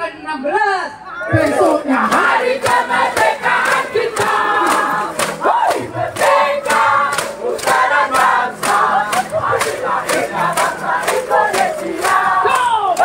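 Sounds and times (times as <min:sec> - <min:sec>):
group chanting and singing: 0:01.1 - 0:13.0
plastic bottle shaker beats: 0:02.0 - 0:13.0.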